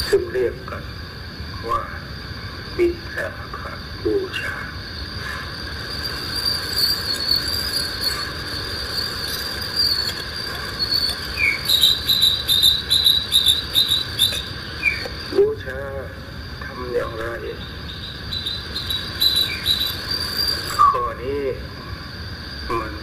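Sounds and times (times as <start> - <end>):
insects trilling: 0.0 - 23.0
fast pulsing chirp: 4.2 - 23.0.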